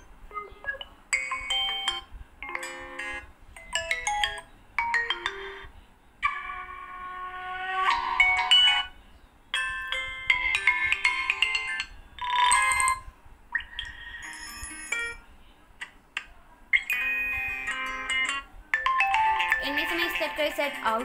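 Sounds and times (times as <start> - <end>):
phone ringtone chiming melodies: 0.4 - 9.0, 9.6 - 13.1, 13.7 - 15.2, 16.8 - 21.0.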